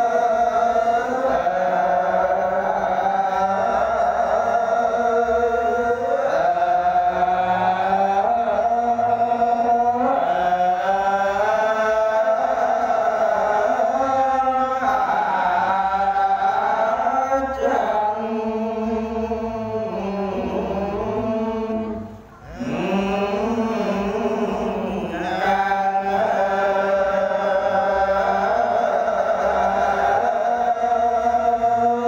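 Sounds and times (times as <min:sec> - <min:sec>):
monk chanting through microphone: 0:00.0 - 0:32.0.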